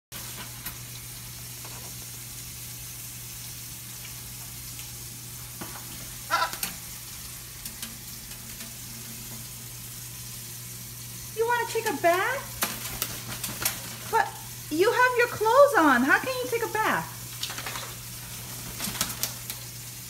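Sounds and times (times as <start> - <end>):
tap water running into sink: 0.2 - 20.0.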